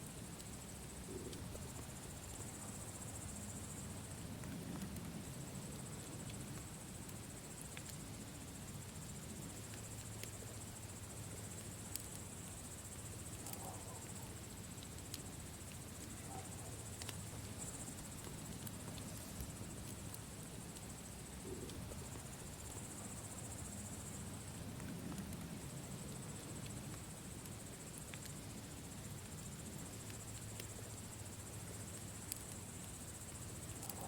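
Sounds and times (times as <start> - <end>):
campfire crackling: 0.0 - 34.0
crickets chirring: 0.0 - 34.0.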